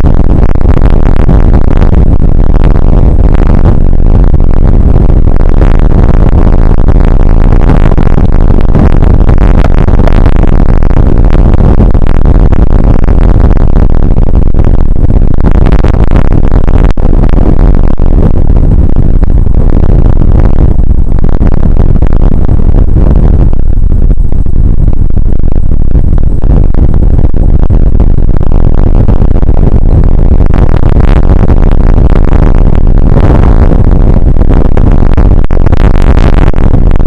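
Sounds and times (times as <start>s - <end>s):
rain and wind on microphone: 0.0s - 37.0s.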